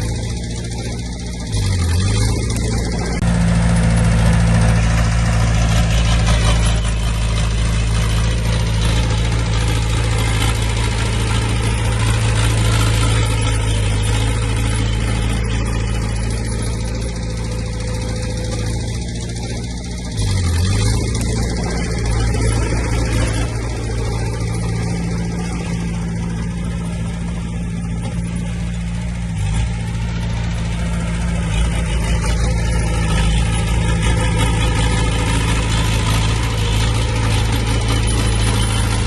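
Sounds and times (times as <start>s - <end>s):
heavy diesel engine running: 0.0s - 39.0s.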